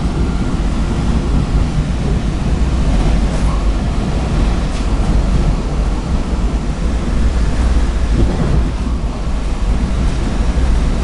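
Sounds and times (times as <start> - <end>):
train rumbling from on board: 0.0 - 11.0.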